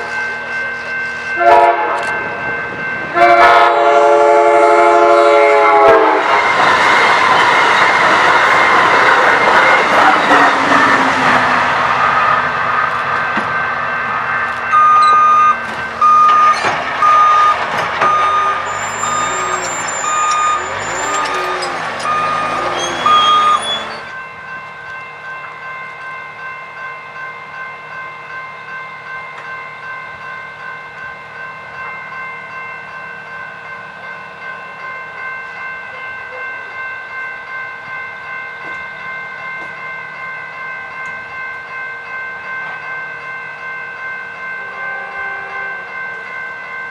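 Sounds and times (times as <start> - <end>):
crossing warning bells: 0.0 - 46.9
train passing: 0.0 - 46.9.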